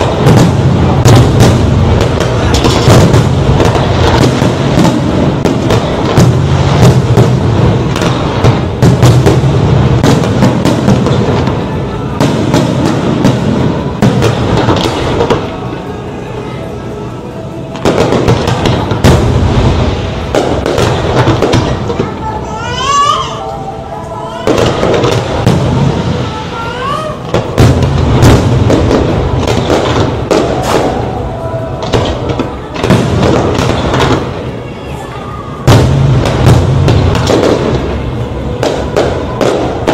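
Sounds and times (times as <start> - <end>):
fireworks bangs and pops: 0.0 - 15.9, 17.7 - 23.4, 24.4 - 39.9.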